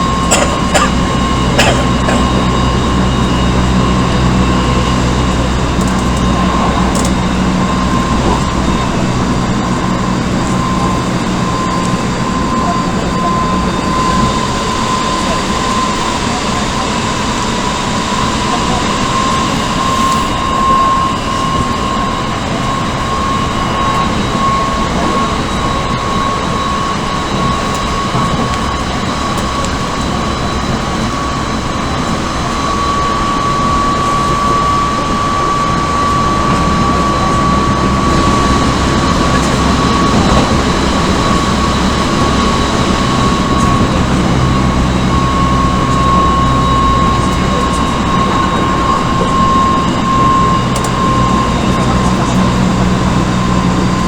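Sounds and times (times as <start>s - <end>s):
low drone: 0.0s - 54.0s
running gear whine: 0.0s - 54.0s
train wheel and rail rumble: 0.0s - 54.0s.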